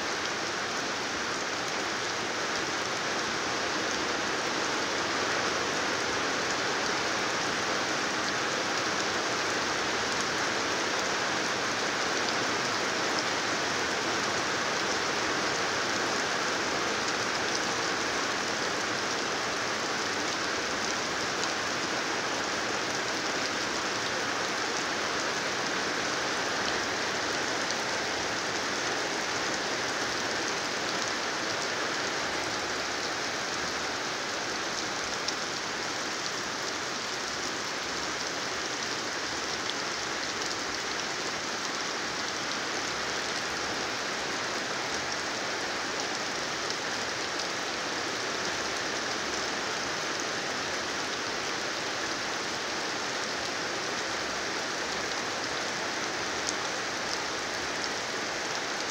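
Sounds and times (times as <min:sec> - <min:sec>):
heavy rain on ground: 0:00.0 - 0:58.9.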